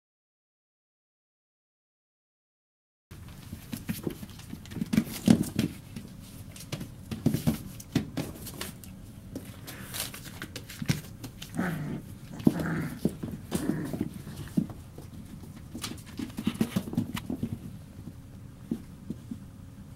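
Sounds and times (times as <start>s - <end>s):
paws scuffling on newspaper: 3.2s - 19.4s.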